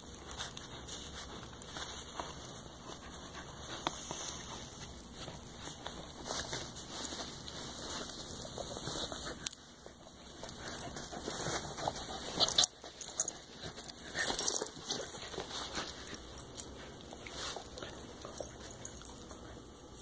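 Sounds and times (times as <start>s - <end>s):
dog noises: 0.0s - 20.0s.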